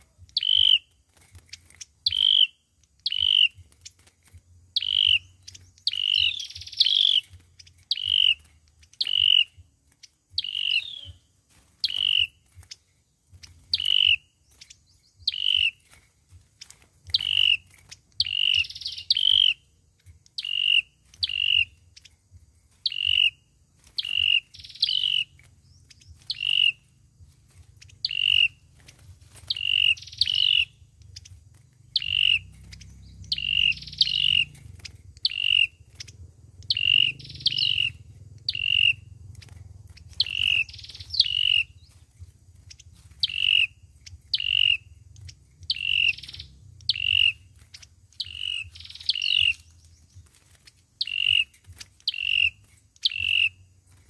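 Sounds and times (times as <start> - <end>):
bird chip calls: 0.0 - 54.0.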